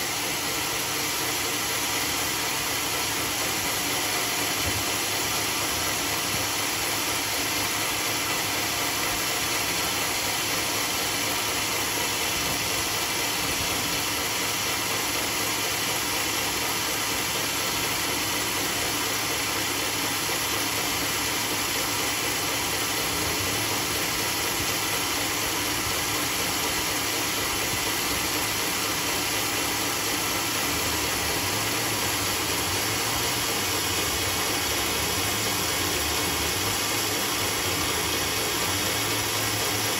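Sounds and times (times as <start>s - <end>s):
band sawmill whirring: 0.0s - 39.9s.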